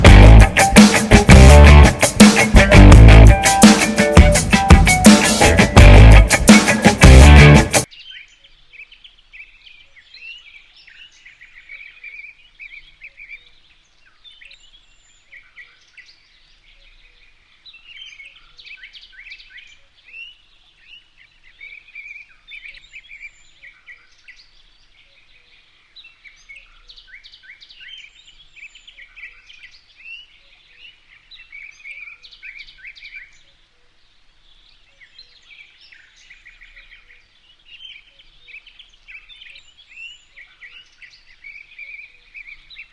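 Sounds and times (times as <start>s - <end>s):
birds chirping and singing: 0.0s - 42.9s.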